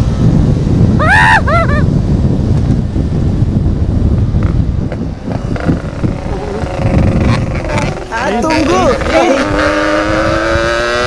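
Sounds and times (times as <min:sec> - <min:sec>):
motorcycle engine and exhaust at speed: 0:00.0 - 0:11.0
wind buffeting on microphone: 0:00.0 - 0:11.0.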